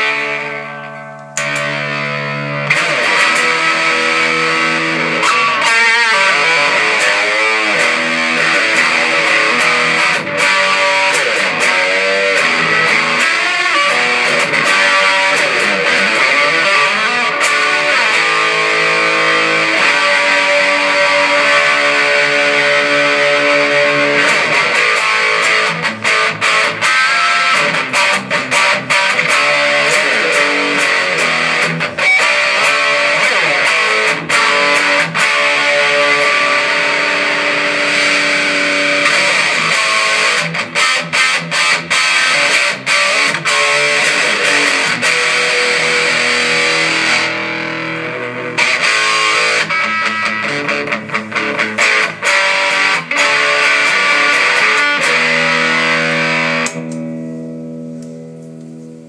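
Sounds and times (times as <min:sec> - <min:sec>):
electric guitar playing: 0:00.0 - 0:59.0.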